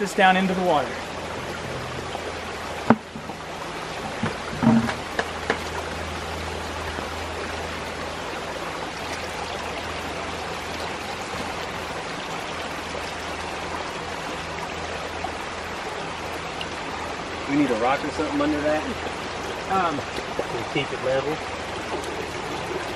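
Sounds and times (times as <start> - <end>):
creek water rushing: 0.0 - 22.9.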